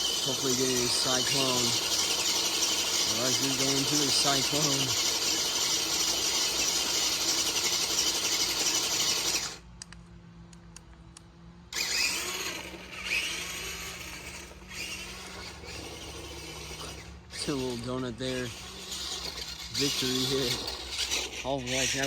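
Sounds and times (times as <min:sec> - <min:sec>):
toy truck motor revving: 0:00.0 - 0:09.6, 0:11.7 - 0:22.0
tyres spinning on dirt: 0:00.0 - 0:09.6, 0:11.8 - 0:22.0.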